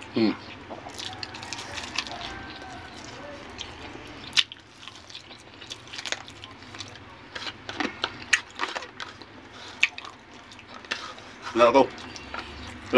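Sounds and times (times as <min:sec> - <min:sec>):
person chewing food: 0:00.0 - 0:12.9.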